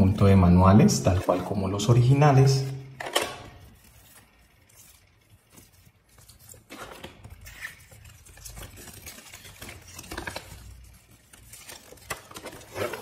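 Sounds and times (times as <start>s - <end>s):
paper rustling and crackling: 0.2s - 13.0s.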